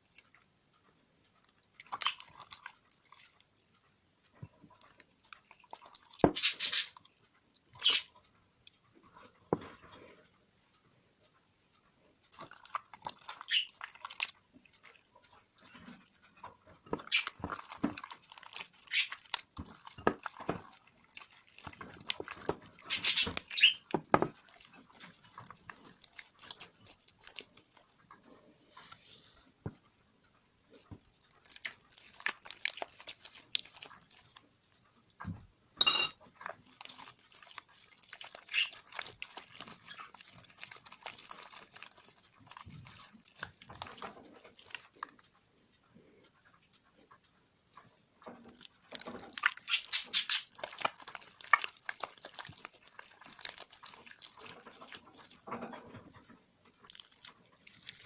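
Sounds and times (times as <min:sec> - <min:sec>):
slime squelching by hand: 0:01.3 - 0:08.2, 0:12.2 - 0:29.9, 0:30.8 - 0:35.2, 0:36.3 - 0:45.4, 0:48.3 - 0:58.0.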